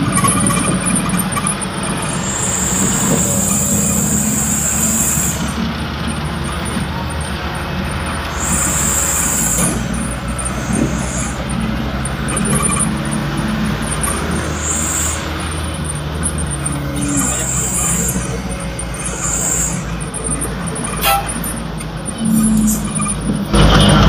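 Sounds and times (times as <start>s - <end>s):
road noise: 0.0s - 24.0s
truck engine droning: 0.0s - 24.0s.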